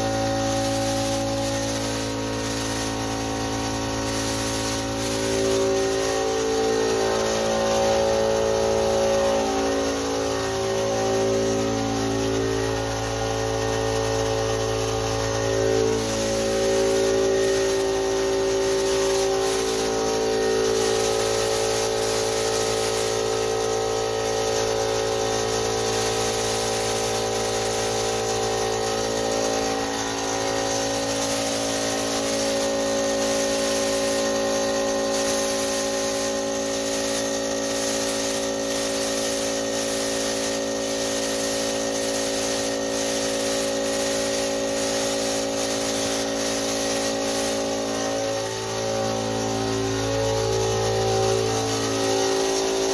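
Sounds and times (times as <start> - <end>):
air compressor motor hum: 0.0 - 52.9
spray gun hissing: 0.0 - 52.9.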